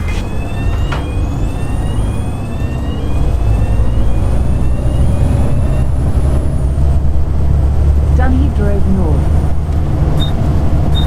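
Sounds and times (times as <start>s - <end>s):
bus diesel engine rumble: 0.0s - 11.0s
high whine rising in pitch: 0.0s - 11.0s.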